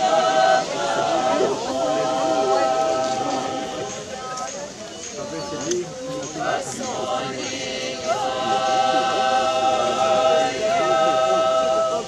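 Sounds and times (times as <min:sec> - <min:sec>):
choir singing unaccompanied: 0:00.0 - 0:12.0
crowd chatter: 0:00.0 - 0:12.0.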